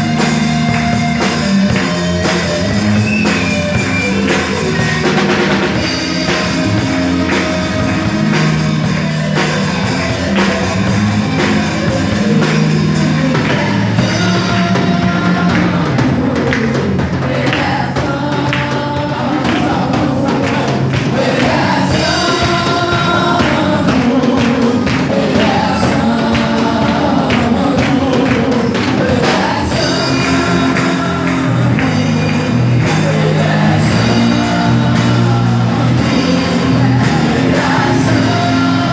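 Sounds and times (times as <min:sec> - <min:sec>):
band of drums bass and guitar: 0:00.0 - 0:38.9
gospel worship singing: 0:00.0 - 0:38.9.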